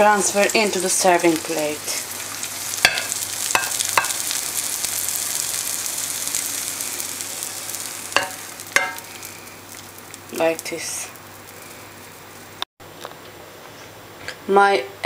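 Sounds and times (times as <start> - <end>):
food sizzling in a frying pan: 0.0 - 12.7.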